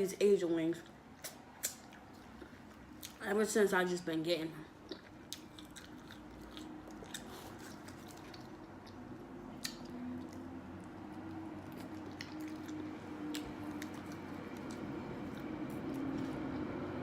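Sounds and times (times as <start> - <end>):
chewing food: 0.7 - 3.5, 4.6 - 17.0
wet squishy mouth sounds: 0.8 - 3.3, 4.8 - 16.6
lip and teeth clicks: 1.2 - 3.2, 4.8 - 16.4.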